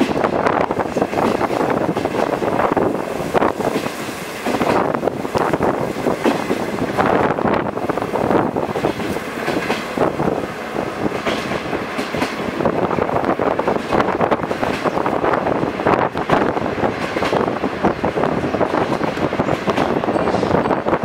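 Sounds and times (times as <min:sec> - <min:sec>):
rush of moving train: 0:00.0 - 0:21.0
train wheels clattering over rails: 0:00.0 - 0:21.0.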